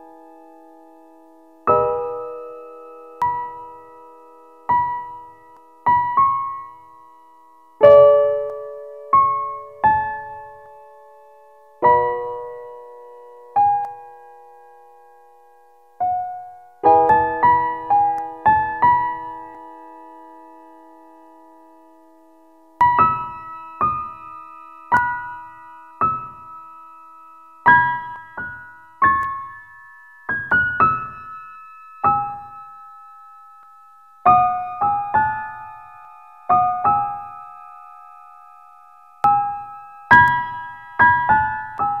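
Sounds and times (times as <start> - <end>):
slow keyboard melody: 0.0 - 42.0.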